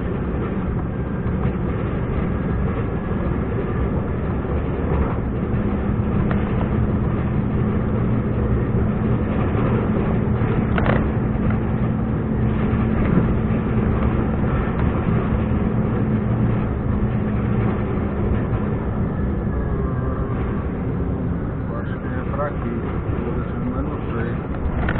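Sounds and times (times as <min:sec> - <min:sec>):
truck diesel engine drone: 0:00.0 - 0:24.9.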